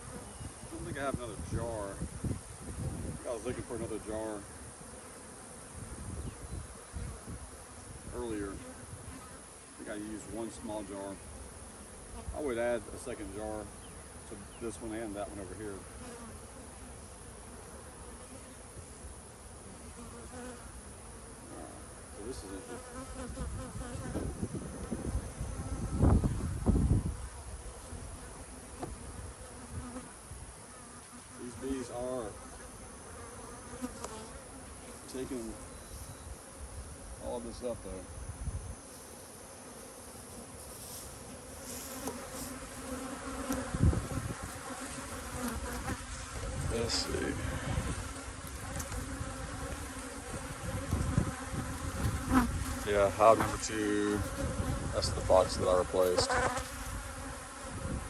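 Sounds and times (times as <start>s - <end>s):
honeybees buzzing: 0.0s - 58.0s.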